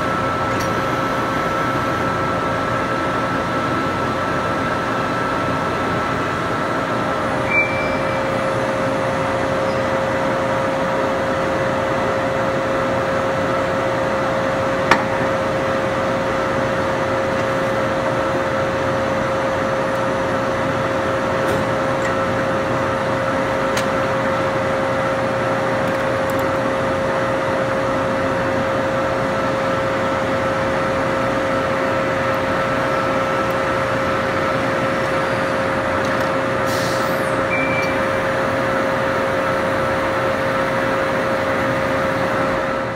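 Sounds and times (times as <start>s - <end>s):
lathe humming with high whine: 0.0s - 42.9s.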